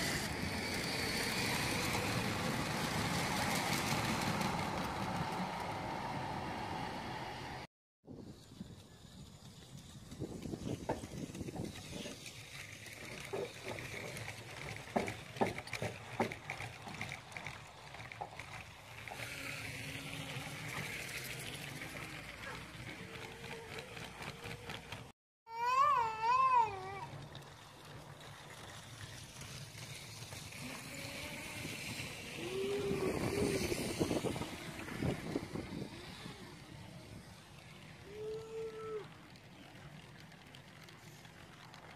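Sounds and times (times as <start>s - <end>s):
wheels clicking on plastic track: 0.0s - 6.9s, 8.1s - 41.9s
toy train motor whine: 0.0s - 7.4s, 8.3s - 41.9s.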